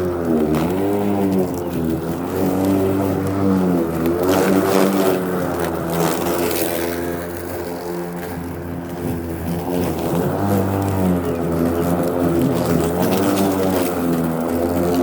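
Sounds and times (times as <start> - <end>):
electric lawn mower cutting grass: 0.0 - 15.0.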